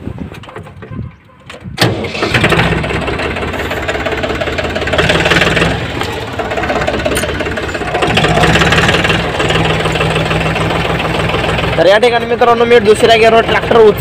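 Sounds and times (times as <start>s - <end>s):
starter motor cranking: 1.8s - 13.8s
diesel engine running: 1.8s - 14.0s.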